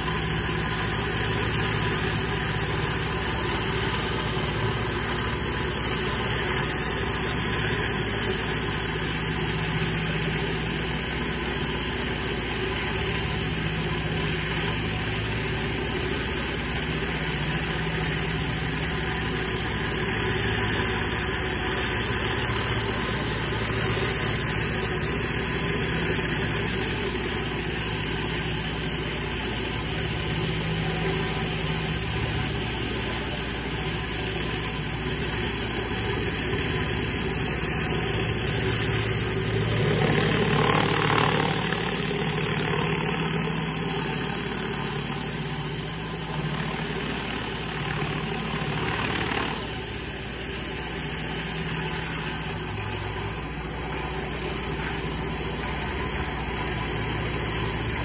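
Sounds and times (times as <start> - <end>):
pressure washer engine hum: 0.0 - 58.0.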